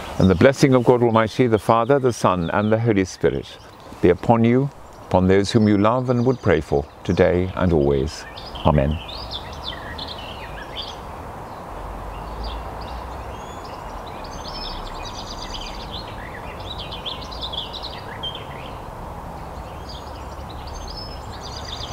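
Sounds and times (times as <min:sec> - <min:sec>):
open air background noise: 0:00.0 - 0:21.9
songbirds chirping and trilling: 0:00.0 - 0:21.9.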